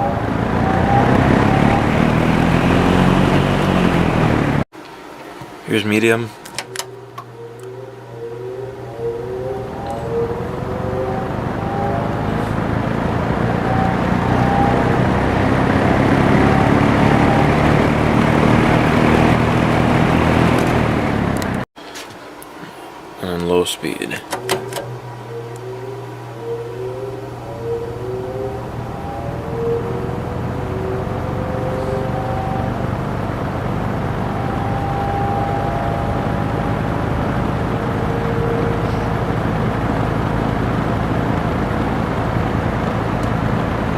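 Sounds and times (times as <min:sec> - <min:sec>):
low motor hum: 0:00.0 - 0:04.7, 0:06.7 - 0:21.7, 0:24.4 - 0:43.9
box fan running: 0:00.0 - 0:43.9.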